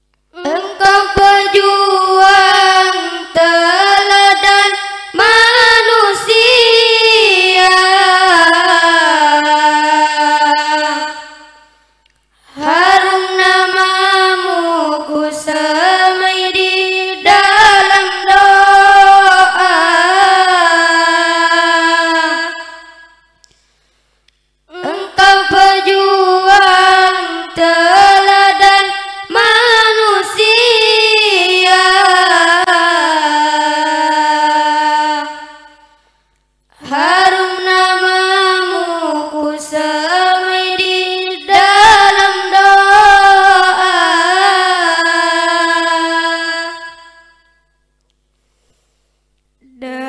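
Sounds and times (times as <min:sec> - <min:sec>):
boy singing: 0:00.3 - 0:11.8, 0:12.4 - 0:23.3, 0:24.7 - 0:36.0, 0:36.8 - 0:47.5, 0:49.6 - 0:50.0.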